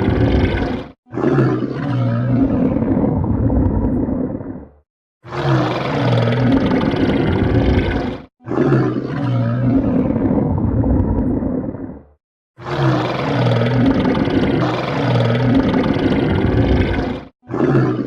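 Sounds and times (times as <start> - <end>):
stomach growling: 0.0 - 4.8, 5.6 - 12.2, 12.8 - 18.0.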